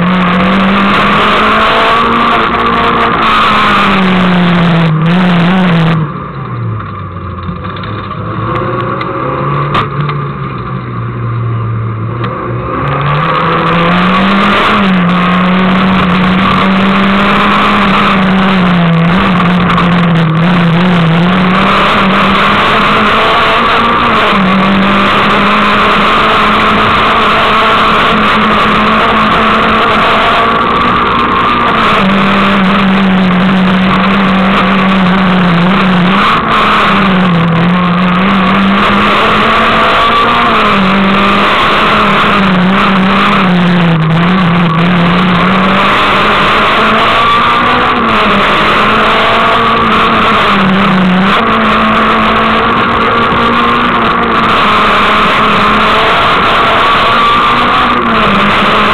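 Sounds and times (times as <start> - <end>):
car engine at high revs: 0.0 - 58.9.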